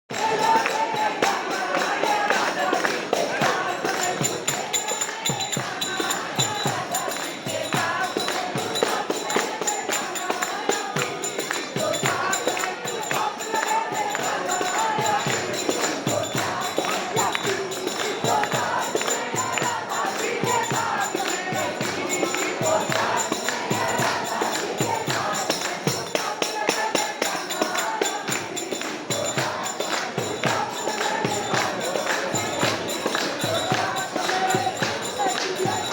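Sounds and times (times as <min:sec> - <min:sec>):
group singing: 0:00.1 - 0:35.9
hand percussion with jingles: 0:00.1 - 0:35.9.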